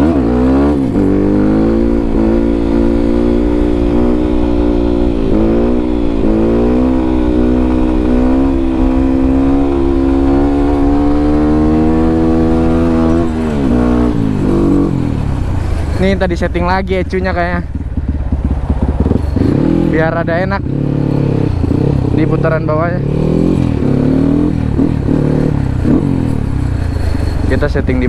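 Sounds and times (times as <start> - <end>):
motorcycle engine shifting up: 0.0 - 28.0.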